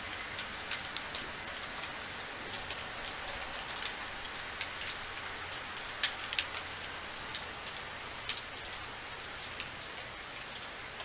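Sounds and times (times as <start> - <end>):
raindrops tapping: 0.0 - 11.0
steady rain: 0.0 - 11.0.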